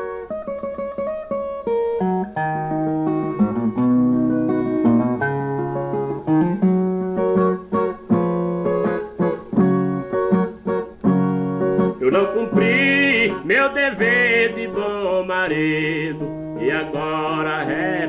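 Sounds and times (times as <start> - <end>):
plucked guitar melody: 0.0 - 18.0
strummed chords: 0.0 - 18.0.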